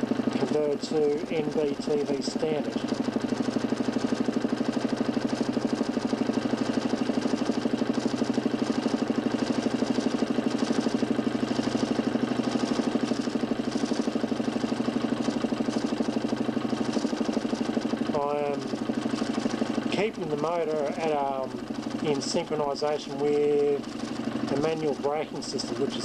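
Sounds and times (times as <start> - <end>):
motor spinning disc pulsing drone: 0.0 - 26.0.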